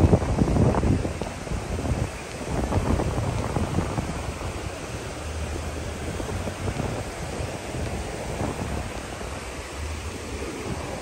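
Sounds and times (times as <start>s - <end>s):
small waves washing on shore: 0.0s - 11.0s
wind buffeting microphone: 0.0s - 11.0s.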